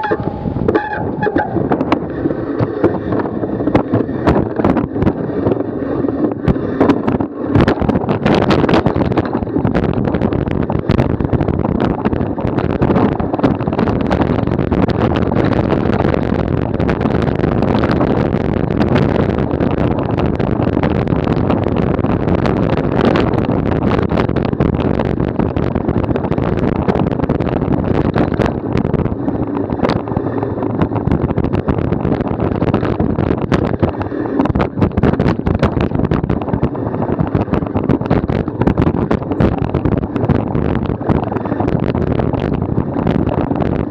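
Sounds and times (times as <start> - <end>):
bicycle tyre noise: 0.0 - 43.9
bike knocks and rattles: 0.0 - 43.9
wind on microphone: 0.0 - 43.9.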